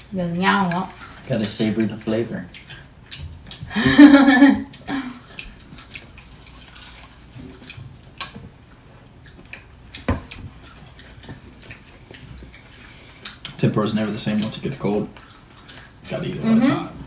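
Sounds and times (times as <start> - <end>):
soft chewing: 0.0 - 3.7, 4.6 - 17.0.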